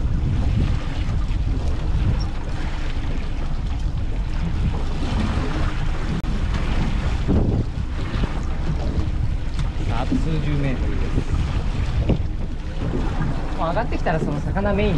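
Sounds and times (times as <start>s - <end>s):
sea and boat noise: 0.0s - 14.9s
wind buffeting microphone: 0.0s - 14.9s.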